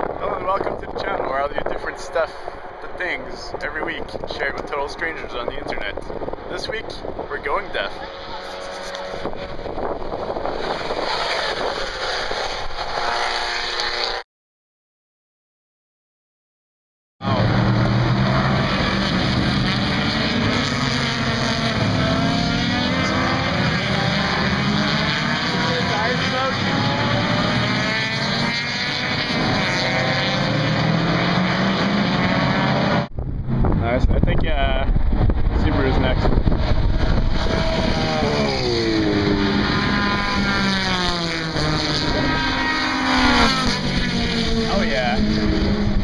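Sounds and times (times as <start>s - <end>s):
race car engines running hard: 0.0s - 14.2s, 17.2s - 46.0s.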